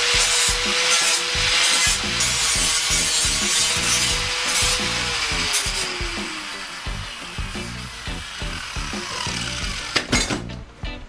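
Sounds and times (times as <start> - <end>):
polishing disc rasping on steel: 0.0 - 9.9
angle grinder motor whine: 0.0 - 10.1.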